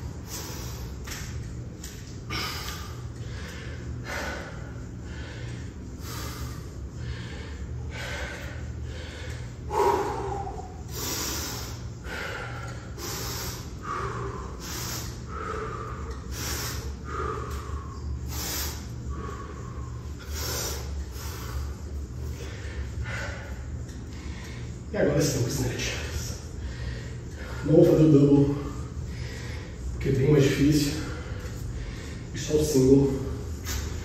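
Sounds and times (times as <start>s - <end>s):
man breathing hard: 0.0s - 24.9s, 25.8s - 32.5s, 33.1s - 34.0s.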